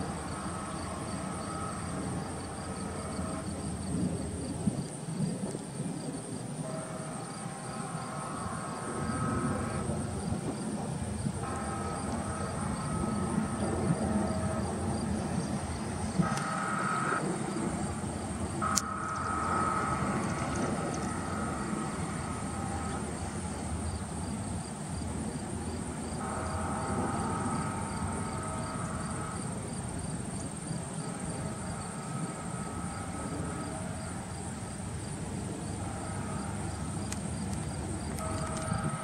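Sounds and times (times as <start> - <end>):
distant train horn blasts: 0.0 - 4.4, 6.5 - 39.0
insects chirping and buzzing: 0.0 - 39.0.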